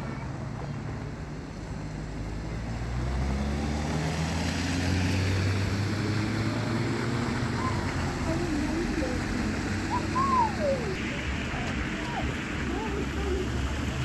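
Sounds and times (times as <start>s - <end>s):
cars driving past on snow: 0.0s - 14.0s.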